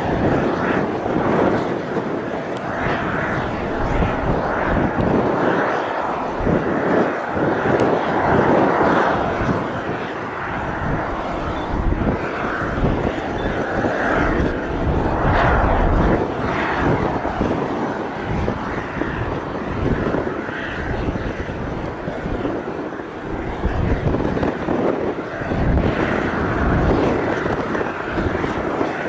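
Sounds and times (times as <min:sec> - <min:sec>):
airliner engines at takeoff: 0:00.0 - 0:29.0
wind buffeting microphone: 0:00.0 - 0:29.0.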